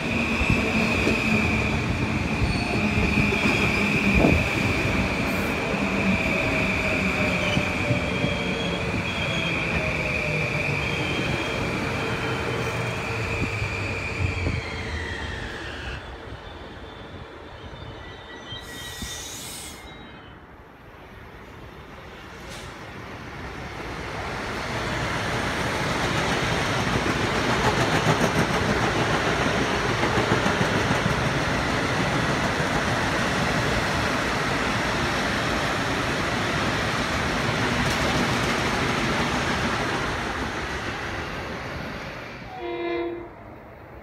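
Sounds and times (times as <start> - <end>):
train passing on rails: 0.0 - 44.0.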